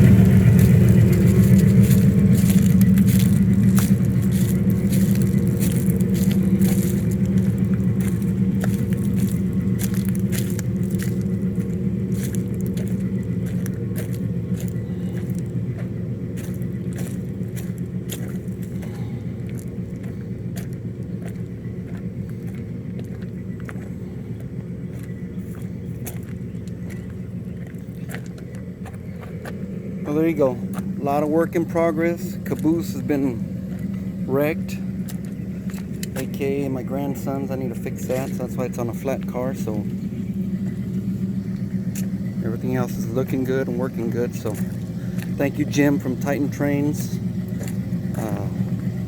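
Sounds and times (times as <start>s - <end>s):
ride-on train rumbling: 0.0s - 49.0s
sharp track clicks: 0.0s - 49.0s.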